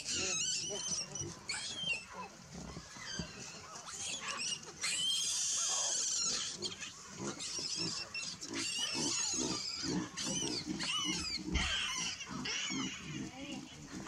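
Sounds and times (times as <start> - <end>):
baboons screaming and squealing: 0.0 - 14.0.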